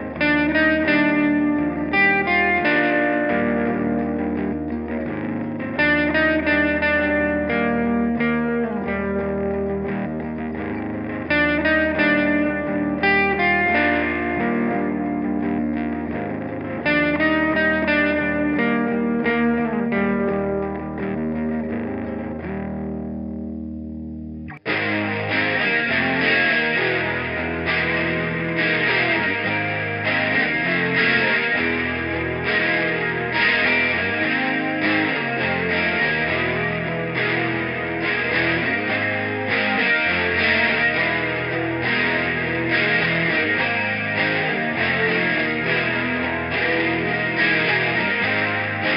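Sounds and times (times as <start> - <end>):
distorted electric guitar riff: 0.0 - 48.9.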